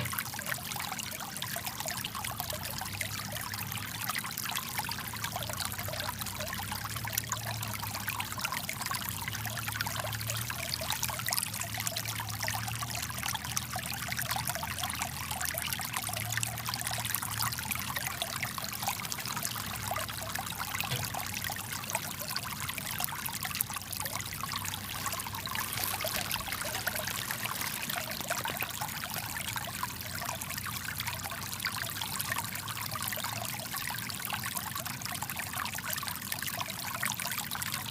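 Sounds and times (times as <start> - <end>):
brook pouring over stones: 0.0 - 37.9.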